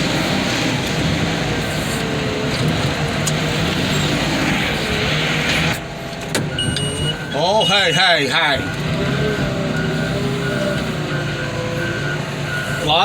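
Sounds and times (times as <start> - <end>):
heavy equipment engine running: 0.0 - 13.0.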